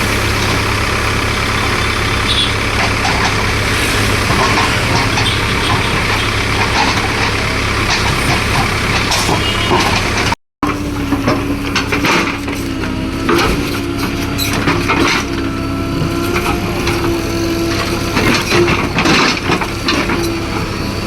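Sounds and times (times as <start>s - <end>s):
digger engine hum: 0.0s - 21.0s.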